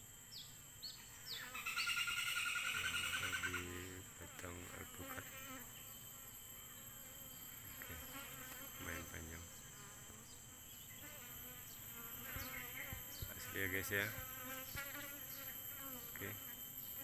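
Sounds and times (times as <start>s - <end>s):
bees humming: 0.0s - 17.0s
bee buzzing close past: 2.6s - 17.0s.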